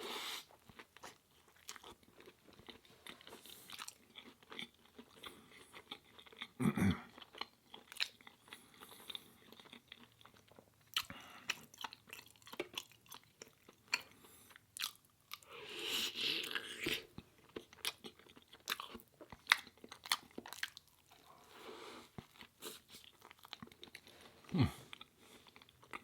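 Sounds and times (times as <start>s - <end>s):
person chewing crunchy food: 0.4s - 26.0s.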